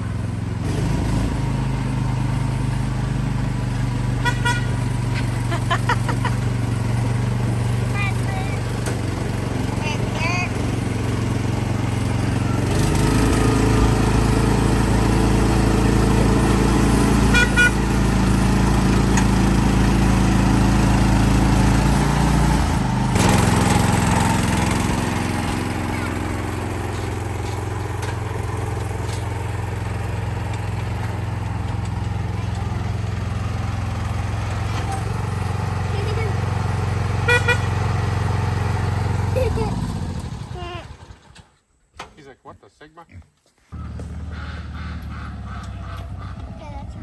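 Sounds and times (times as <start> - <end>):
small vehicle engine running: 0.0 - 41.6, 43.7 - 47.0.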